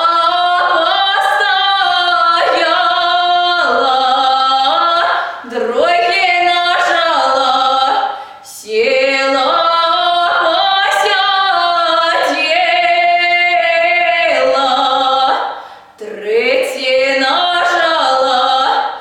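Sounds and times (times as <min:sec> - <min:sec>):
woman singing solo: 0:00.0 - 0:19.0.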